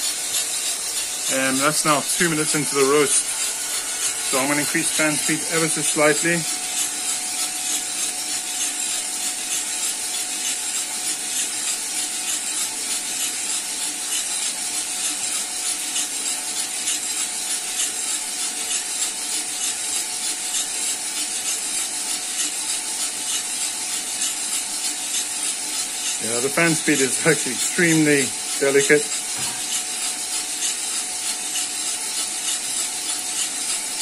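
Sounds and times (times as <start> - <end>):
coffee beans rattling in drum: 0.0 - 34.0
roaster motor and fan: 0.0 - 34.0.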